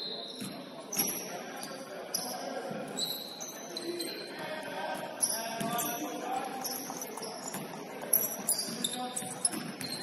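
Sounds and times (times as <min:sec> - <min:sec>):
sneakers squeaking on court: 0:00.0 - 0:04.3, 0:05.0 - 0:10.0
murmur of voices: 0:00.0 - 0:10.0.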